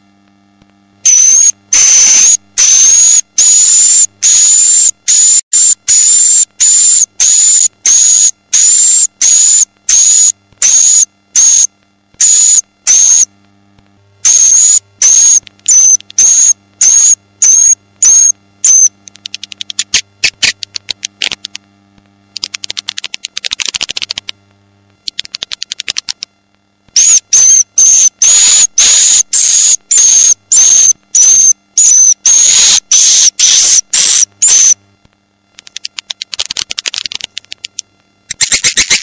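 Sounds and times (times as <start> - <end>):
rapid clicking twitters: 1.1 - 13.3, 14.2 - 21.7, 22.3 - 24.4, 25.0 - 26.3, 27.0 - 34.8, 35.6 - 39.0.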